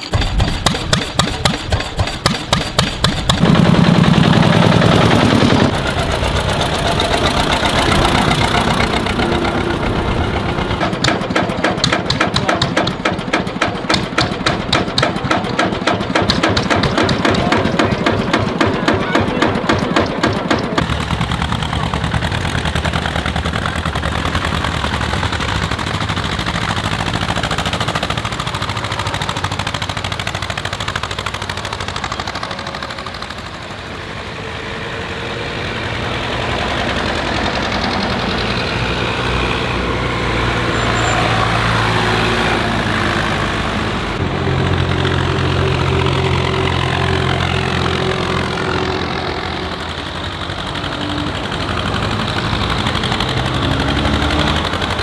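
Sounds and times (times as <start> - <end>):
tractors driving past: 0.0 - 55.0.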